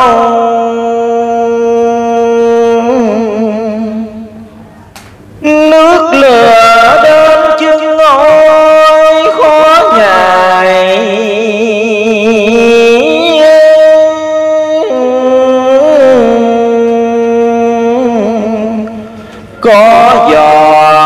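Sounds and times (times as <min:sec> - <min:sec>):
man chanting through a microphone: 0:00.0 - 0:21.0.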